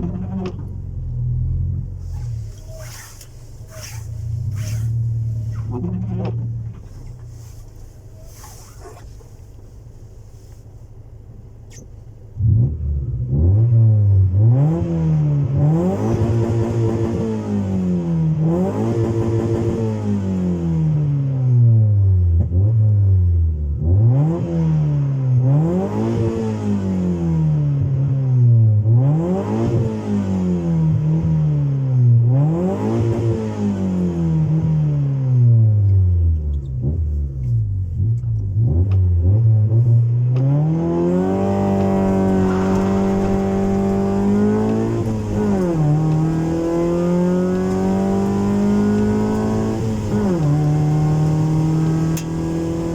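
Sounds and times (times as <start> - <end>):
car engine revving: 0.0 - 10.6, 11.5 - 21.8, 28.8 - 52.9.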